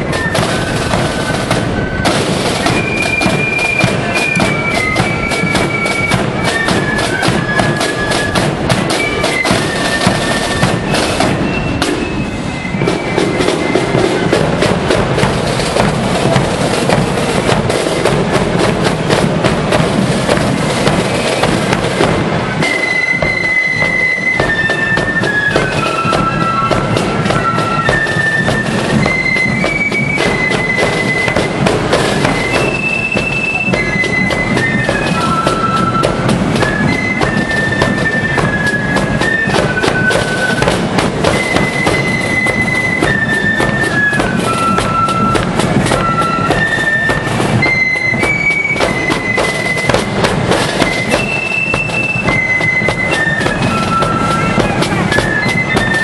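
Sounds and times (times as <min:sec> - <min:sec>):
cymbals: 0:00.0 - 0:56.0
flutes playing melody: 0:00.0 - 0:56.0
snare drumming: 0:00.0 - 0:56.0.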